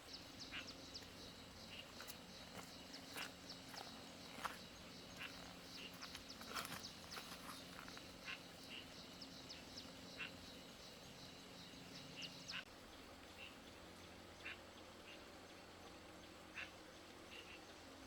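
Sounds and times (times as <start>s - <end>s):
faint outdoor ambience: 0.0s - 18.0s
low steady hum: 0.0s - 18.0s.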